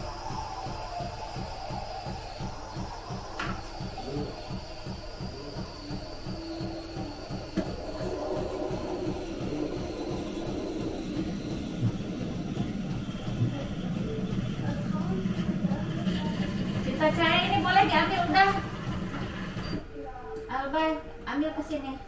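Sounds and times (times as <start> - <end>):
music with pulsing beat: 0.0 - 17.8.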